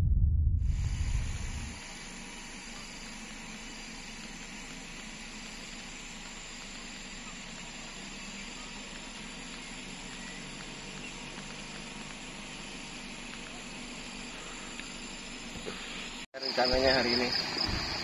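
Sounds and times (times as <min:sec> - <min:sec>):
low steady hum: 0:00.0 - 0:16.3
even outdoor hiss: 0:00.7 - 0:18.0.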